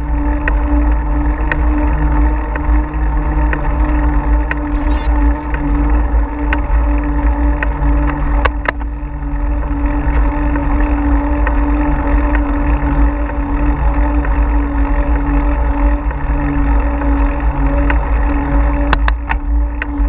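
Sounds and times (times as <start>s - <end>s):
constant hum: 0.0s - 20.0s.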